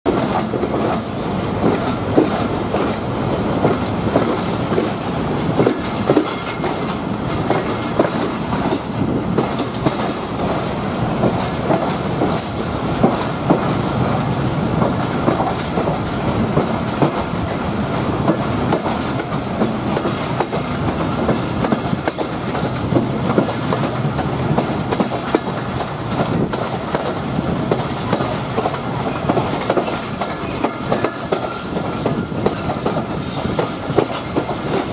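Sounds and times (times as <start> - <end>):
steady train rumble: 0.0 - 34.9
train wheels clattering over rail joints: 0.1 - 34.9.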